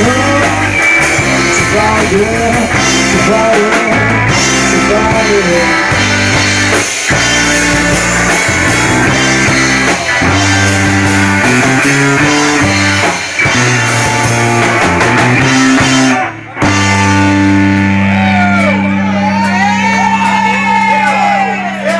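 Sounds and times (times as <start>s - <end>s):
loud rock music: 0.0s - 21.9s.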